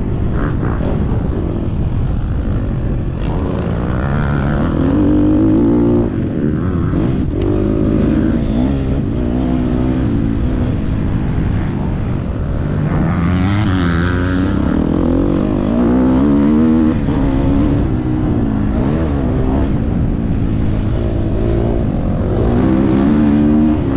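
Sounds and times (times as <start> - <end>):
motocross bike engine revving: 0.0 - 23.9.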